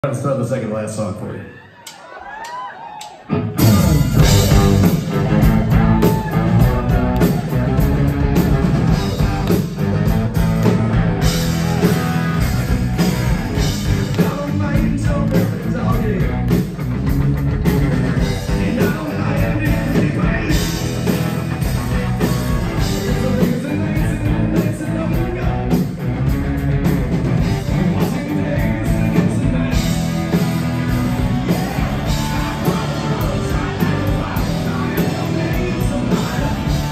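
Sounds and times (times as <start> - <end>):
live rock band playing: 3.2 - 36.9.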